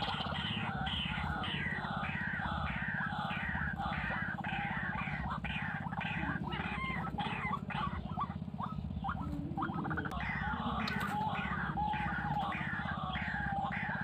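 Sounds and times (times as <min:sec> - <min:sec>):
steady low hum: 0:00.0 - 0:14.0
waterhen calling harsh notes: 0:00.0 - 0:14.0.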